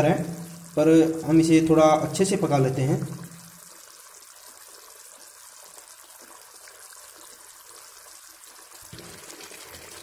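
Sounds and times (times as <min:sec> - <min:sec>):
gravy simmering and bubbling: 0:00.0 - 0:10.0.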